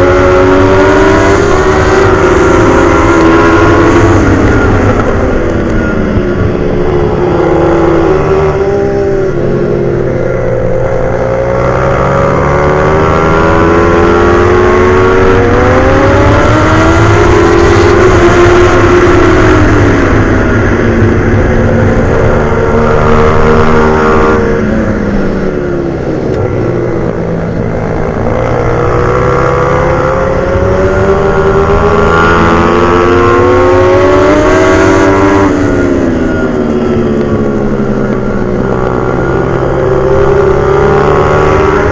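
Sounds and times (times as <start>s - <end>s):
pit bike engine revving: 0.0s - 41.9s.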